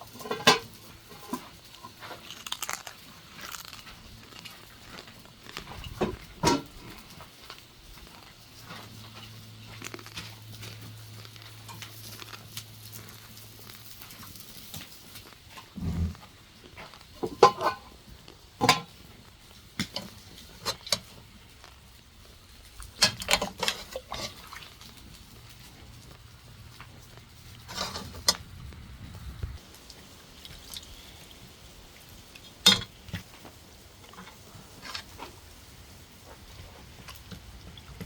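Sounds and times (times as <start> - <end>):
chewing: 0.0 - 38.0.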